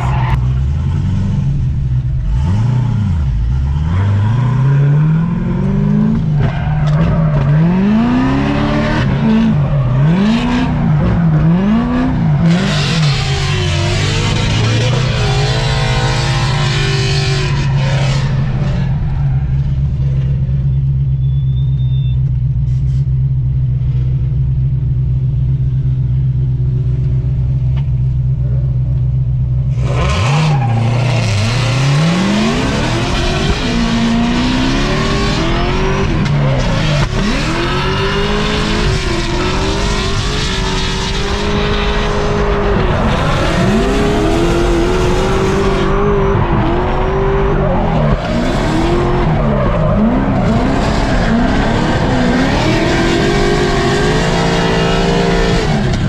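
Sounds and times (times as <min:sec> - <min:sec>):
car engine revving: 0:00.0 - 0:22.0, 0:23.5 - 0:56.0.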